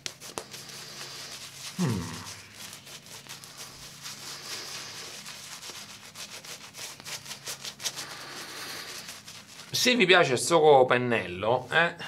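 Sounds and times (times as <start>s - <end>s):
brush swishing shaving lather: 0.0s - 11.0s.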